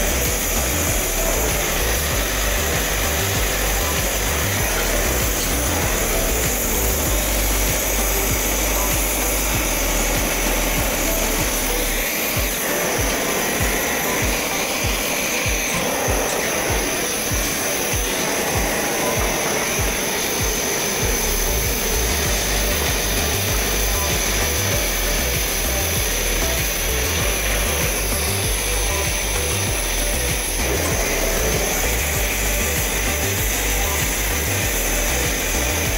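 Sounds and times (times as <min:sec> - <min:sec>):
gas torch flame hissing: 0:00.0 - 0:35.9.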